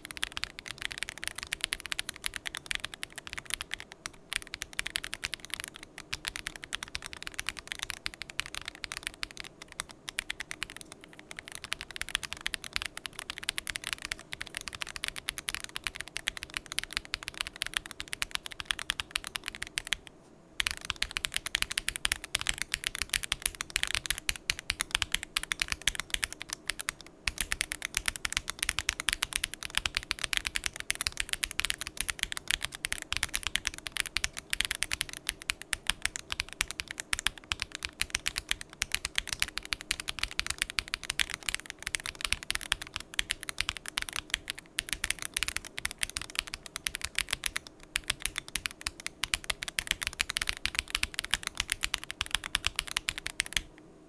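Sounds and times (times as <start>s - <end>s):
mechanical keyboard typing: 0.0s - 53.7s.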